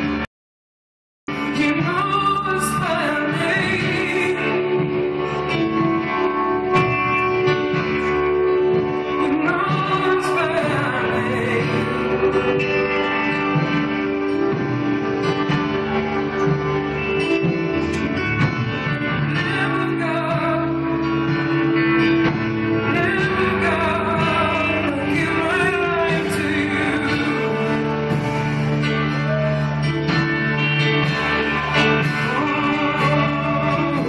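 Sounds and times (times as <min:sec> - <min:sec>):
guitar: 0:00.0 - 0:00.3, 0:01.3 - 0:34.0
person singing: 0:01.3 - 0:34.0
sustained instrumental chords: 0:01.3 - 0:34.0.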